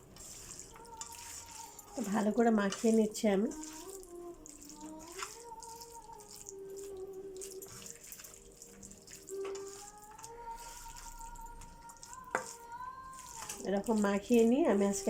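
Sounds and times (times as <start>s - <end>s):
wet squelching of raw chicken: 0.0s - 15.0s.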